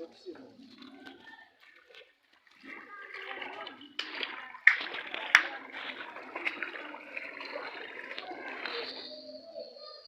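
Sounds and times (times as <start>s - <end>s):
floodwater rushing: 0.6s - 9.6s.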